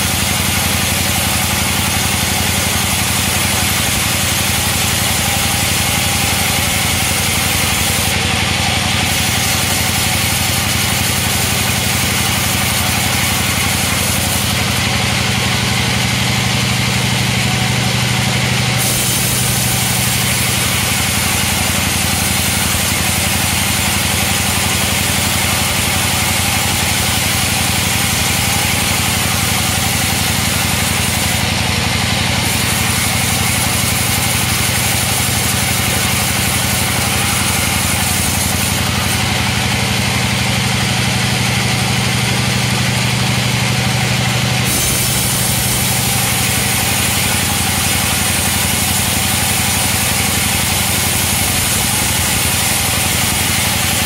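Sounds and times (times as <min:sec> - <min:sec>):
band saw cutting wood: 0:00.0 - 0:54.0
sawmill drive humming: 0:00.0 - 0:54.0.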